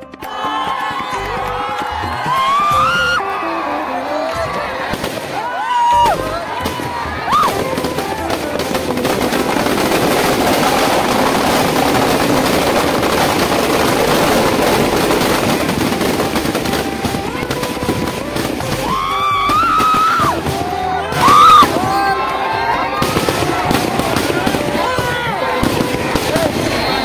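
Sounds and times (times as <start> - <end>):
large crowd noise: 0.0 - 27.0
firecrackers crackling: 3.9 - 27.0.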